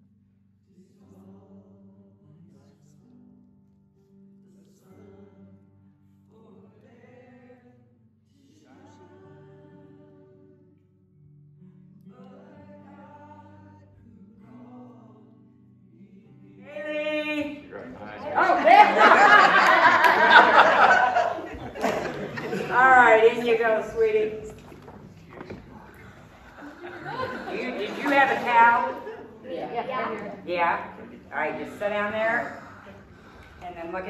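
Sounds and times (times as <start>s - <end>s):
voices singing worship song: 0.6s - 3.2s, 4.5s - 10.8s, 12.0s - 34.0s.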